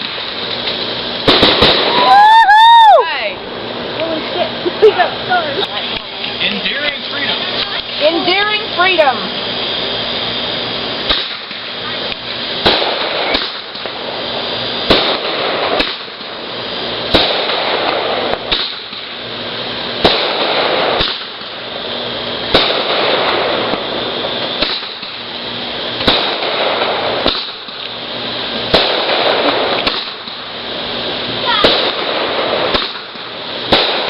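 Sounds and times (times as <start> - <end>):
fireworks bangs: 0.0 - 34.0
fireworks crackling and hissing: 0.0 - 34.0.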